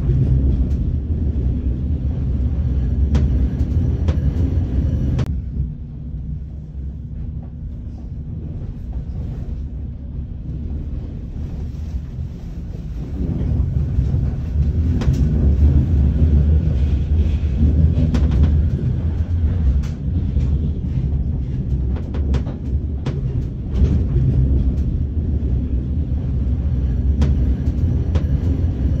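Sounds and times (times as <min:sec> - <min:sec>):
tram low rumble: 0:00.0 - 0:29.0.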